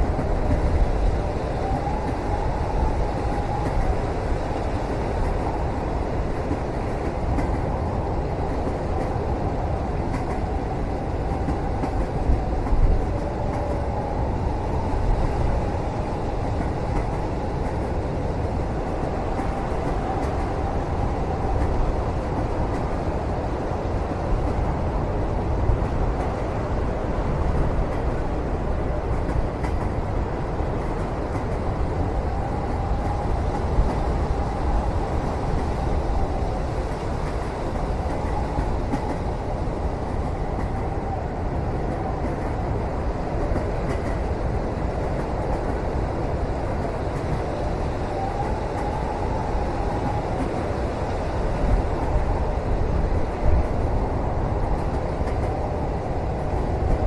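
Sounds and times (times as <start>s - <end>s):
train rumbling inside cabin: 0.0s - 57.0s.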